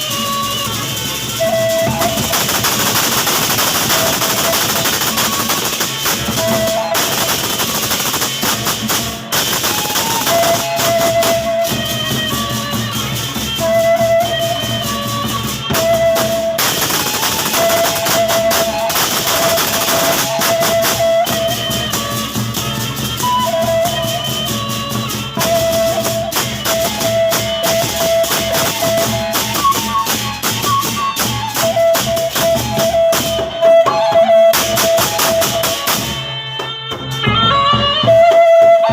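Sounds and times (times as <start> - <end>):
large drums and cymbals: 0.0 - 38.9
wind instrument melody: 0.0 - 38.9.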